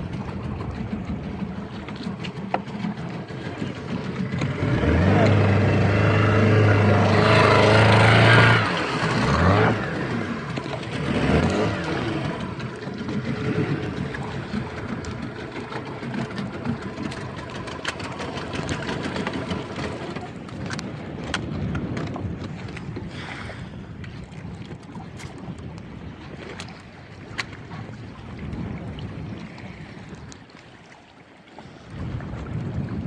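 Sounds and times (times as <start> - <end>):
boat engine humming: 0.0 - 33.0
water sloshing along hull: 0.0 - 33.0.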